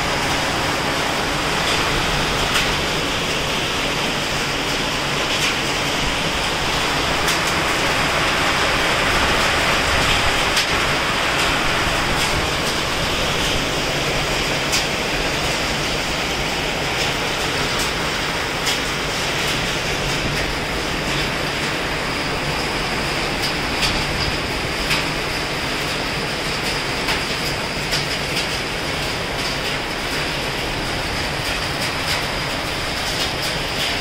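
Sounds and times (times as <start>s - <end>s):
heavy rain and hail hissing: 0.0s - 34.0s
hailstones clicking on surfaces: 0.1s - 22.6s, 23.2s - 34.0s.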